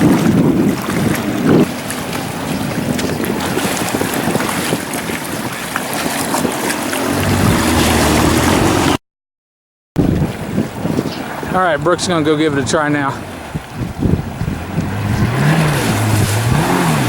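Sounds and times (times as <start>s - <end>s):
jet ski engine: 0.0s - 9.0s, 11.2s - 17.0s
water rushing: 0.0s - 9.0s, 10.0s - 17.0s
wind buffeting microphone: 0.0s - 9.0s, 10.0s - 17.0s.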